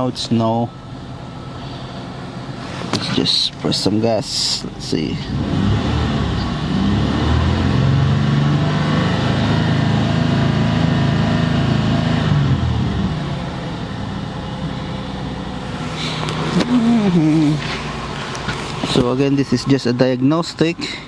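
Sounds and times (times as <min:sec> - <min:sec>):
car engine revving and idling: 0:00.7 - 0:20.6.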